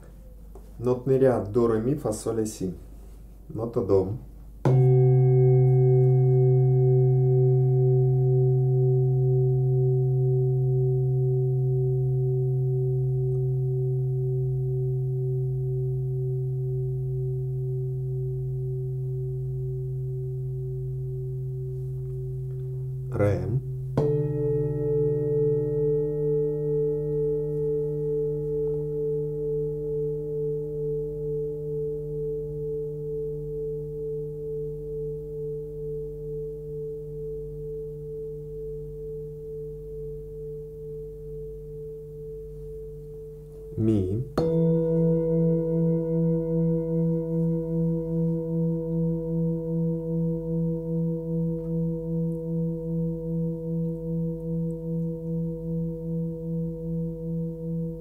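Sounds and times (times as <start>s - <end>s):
singing bowls ringing: 4.6s - 43.8s, 44.4s - 58.0s
higher-pitched singing bowl: 4.6s - 58.0s.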